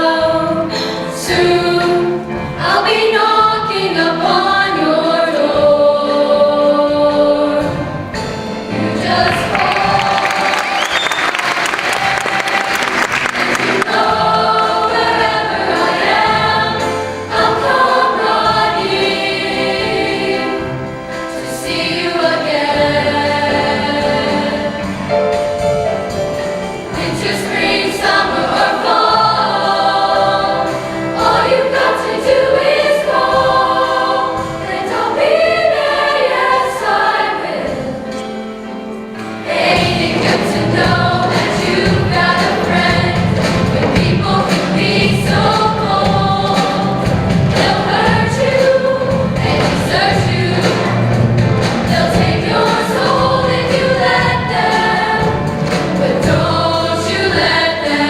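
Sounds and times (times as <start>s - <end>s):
musical accompaniment: 0.0s - 58.0s
show choir singing: 0.0s - 58.0s.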